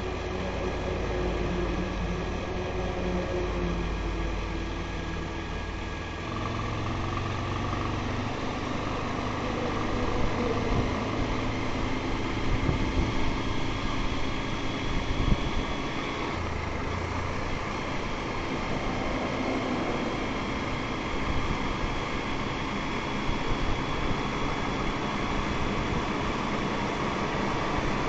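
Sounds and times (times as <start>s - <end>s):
motorcycle engine running: 0.0s - 28.0s
road noise: 0.0s - 28.0s.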